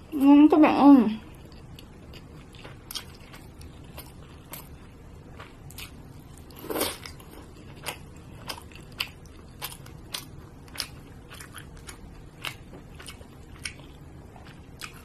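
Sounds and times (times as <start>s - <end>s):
person chewing food: 1.3s - 15.0s.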